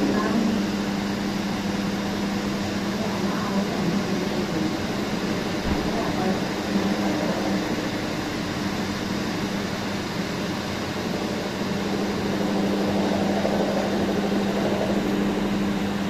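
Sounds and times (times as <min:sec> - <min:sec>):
mechanical hum with hiss: 0:00.0 - 0:16.0.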